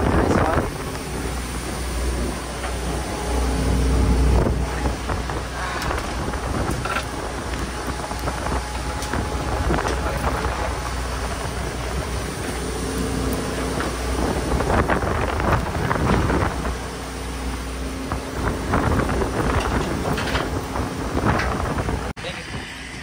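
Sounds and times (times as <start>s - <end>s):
boat engine humming: 0.0s - 23.0s
rushing noises: 0.0s - 23.0s
wind on microphone: 0.0s - 23.0s.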